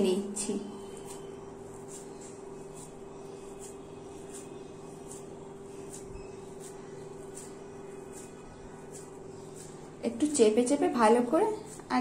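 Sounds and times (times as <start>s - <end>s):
dough squishing in a hand: 0.0s - 12.0s
faint steady hum: 0.0s - 12.0s.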